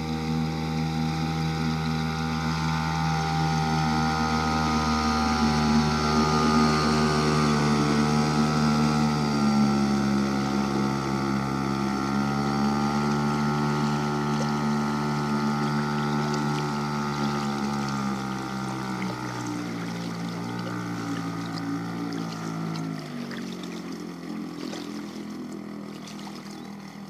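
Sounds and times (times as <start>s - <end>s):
outboard motor passing: 0.0s - 27.0s.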